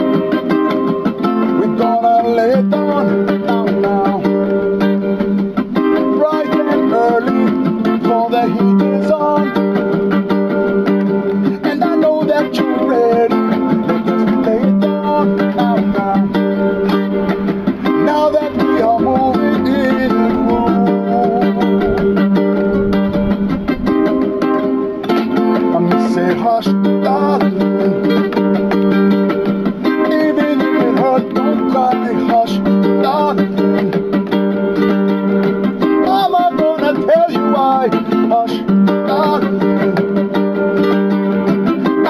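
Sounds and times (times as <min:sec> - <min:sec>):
person singing: 0:00.0 - 0:35.0, 0:35.7 - 0:42.0
ukulele strumming chords: 0:00.0 - 0:42.0.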